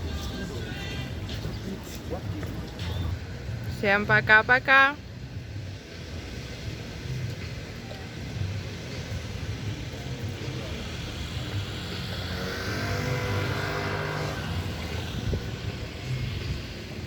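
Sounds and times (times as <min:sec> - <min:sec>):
engine passing by: 0:00.0 - 0:17.0.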